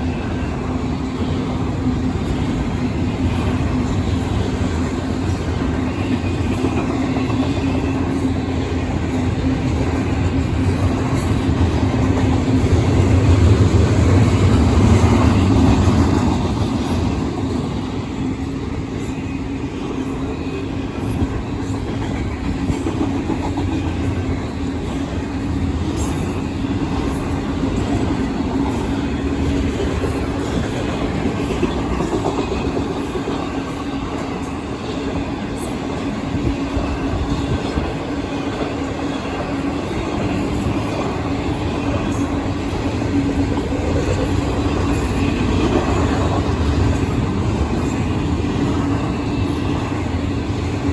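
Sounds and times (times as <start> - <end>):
train wheels clacking on rails: 0.0 - 50.9.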